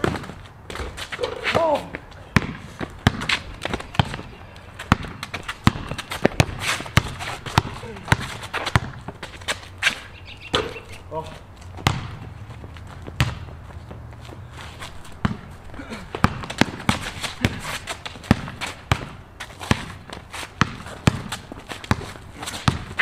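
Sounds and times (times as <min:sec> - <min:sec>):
basketball bouncing on concrete: 0:00.0 - 0:09.7, 0:10.5 - 0:11.0, 0:11.6 - 0:23.0.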